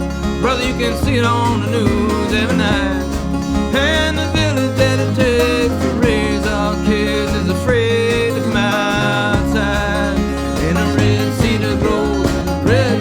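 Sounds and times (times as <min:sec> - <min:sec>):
acoustic guitar: 0:00.0 - 0:13.0
banjo: 0:00.0 - 0:13.0
sliding lead melody: 0:00.0 - 0:13.0.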